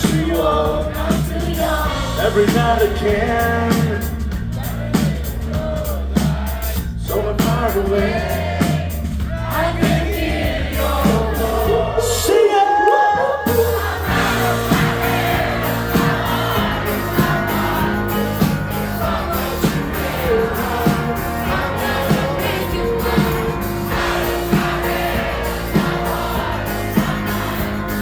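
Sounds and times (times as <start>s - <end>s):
live rock band playing: 0.0s - 12.6s, 13.2s - 28.0s
crowd singing along: 0.0s - 28.0s
steady drum beat: 0.0s - 28.0s.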